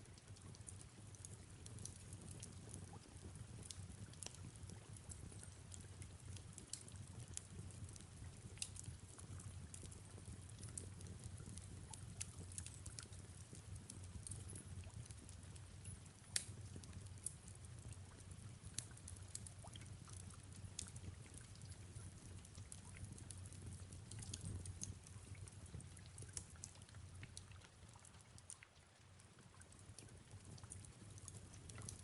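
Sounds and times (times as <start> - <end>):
soft rain falling: 0.0 - 32.0
fireplace crackling: 0.2 - 32.0.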